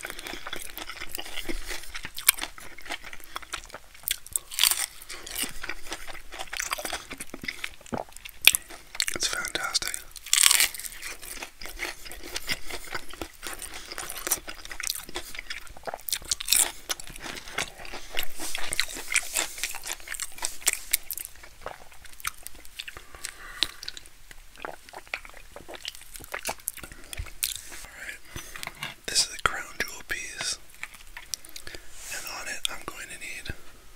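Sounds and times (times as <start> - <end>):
crunchy food chewing: 0.0 - 32.9.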